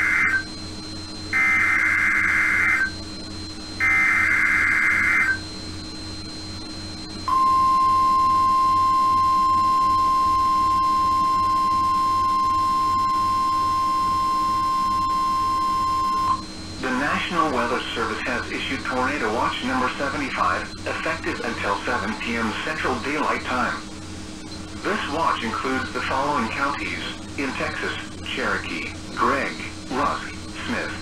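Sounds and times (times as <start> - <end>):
screeching digital data bursts: 0.0 - 31.0
steady single-pitch alarm tone: 0.0 - 31.0.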